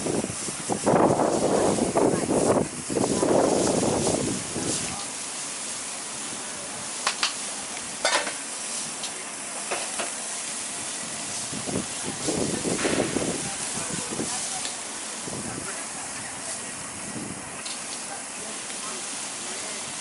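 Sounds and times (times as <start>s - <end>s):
chicken sizzling on a grill: 0.0s - 20.0s.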